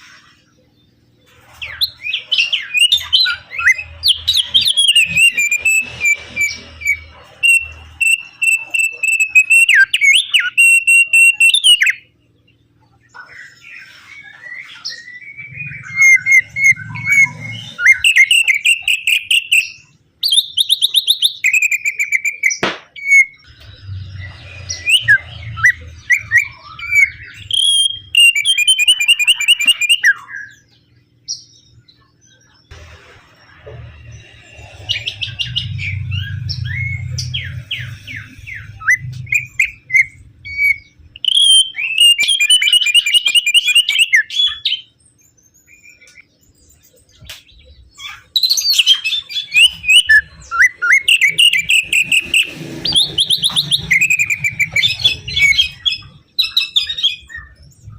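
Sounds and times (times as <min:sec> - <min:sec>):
bird singing chattering trills: 0:00.8 - 0:32.7, 0:34.0 - 0:57.9.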